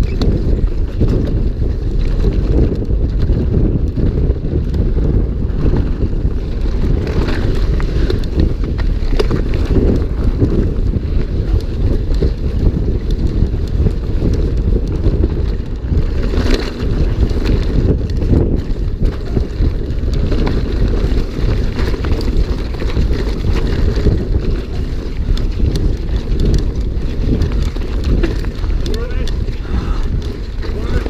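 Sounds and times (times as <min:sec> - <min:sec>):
bike knocks and rattles: 0:00.0 - 0:31.0
wind buffeting microphone: 0:00.0 - 0:31.0.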